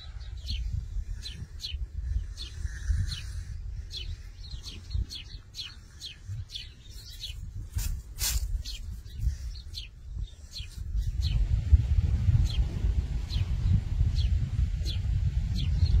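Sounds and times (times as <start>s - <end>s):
small songbirds chirping: 0.0s - 16.0s
steady low rumble: 0.0s - 16.0s.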